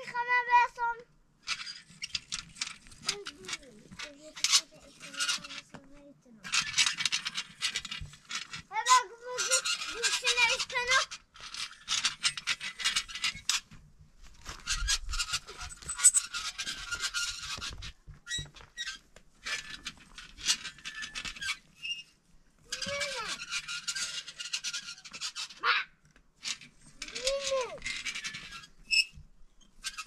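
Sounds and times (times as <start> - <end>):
stone roller squeaking and scraping: 1.5 - 5.8, 6.4 - 13.8, 14.4 - 25.6, 26.4 - 30.0.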